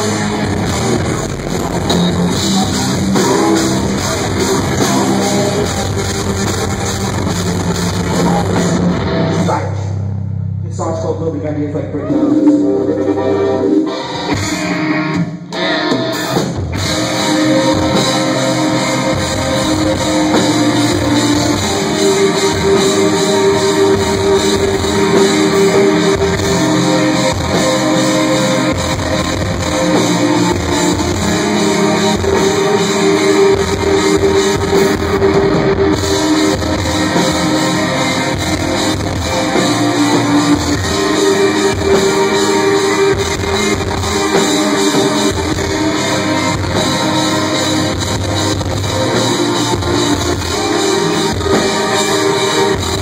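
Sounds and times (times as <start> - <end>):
drum kit: 0.0 - 9.9, 12.1 - 53.0
electric guitar: 0.0 - 10.7, 11.8 - 53.0
bass guitar: 0.0 - 53.0.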